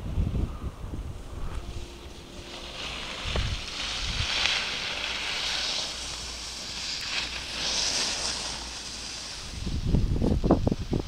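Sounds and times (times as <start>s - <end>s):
wind rumbling on microphone: 0.0s - 11.0s
skis hissing over snow: 1.5s - 11.0s.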